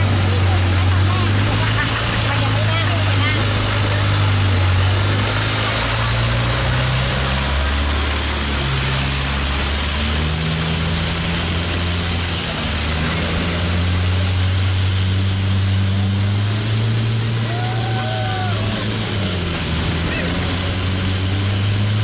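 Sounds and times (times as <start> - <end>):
boat engine running: 0.0 - 22.0
water rushing along hull: 0.0 - 22.0.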